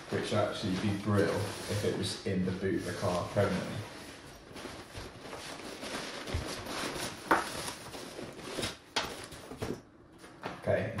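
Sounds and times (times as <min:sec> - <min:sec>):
fabric bag rustling: 0:00.0 - 0:09.6.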